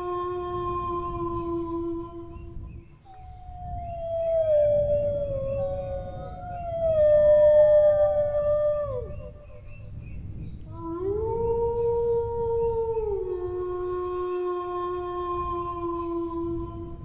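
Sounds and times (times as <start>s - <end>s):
dogs howling: 0.0s - 9.7s, 10.8s - 17.0s.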